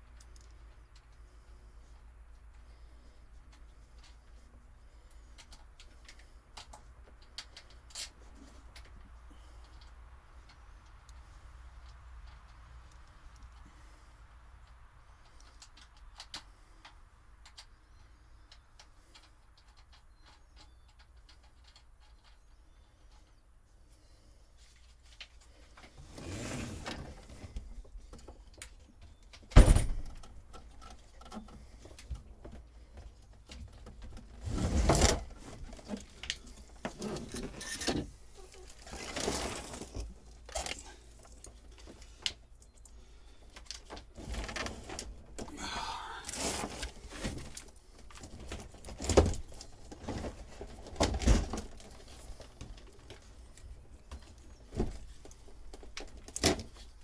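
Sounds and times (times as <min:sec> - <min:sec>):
clunks and rustling of handled parts: 0:00.0 - 0:13.9, 0:14.6 - 0:23.4, 0:26.8 - 0:57.0.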